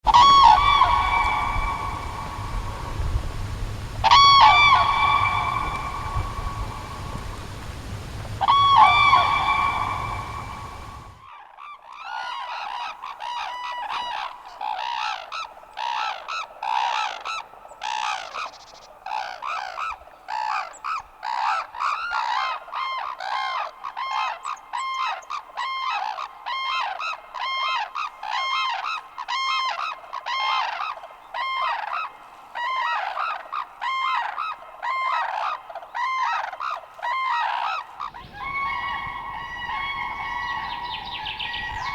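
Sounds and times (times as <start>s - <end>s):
cranes honking calls: 0.1s - 18.5s, 19.1s - 41.9s.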